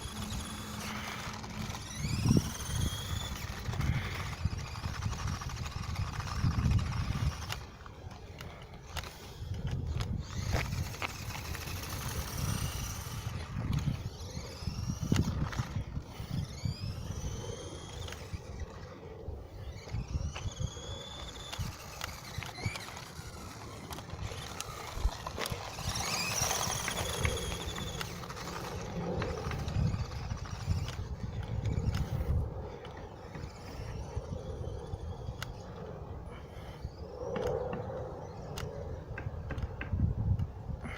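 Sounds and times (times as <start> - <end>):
toy electric motor whining: 0.0 - 40.9.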